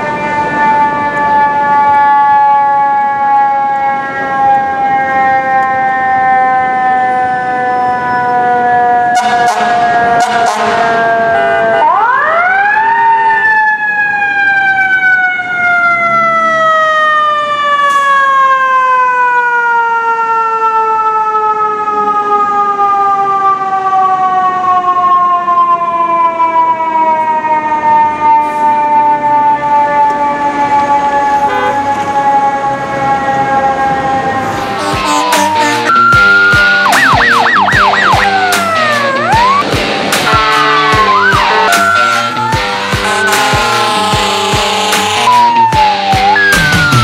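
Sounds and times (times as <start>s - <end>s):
mechanical fire truck siren: 0.0s - 47.0s.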